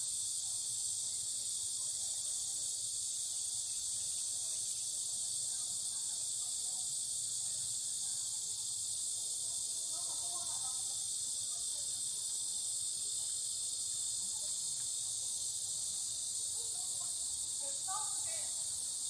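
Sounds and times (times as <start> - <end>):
faint distant voices: 0.0 - 19.0
insects chorus: 0.0 - 19.0.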